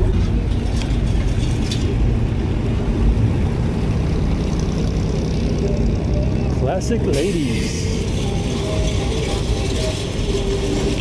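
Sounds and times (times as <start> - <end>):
car engine rumbling: 0.0 - 11.0
traffic noise: 0.0 - 11.0.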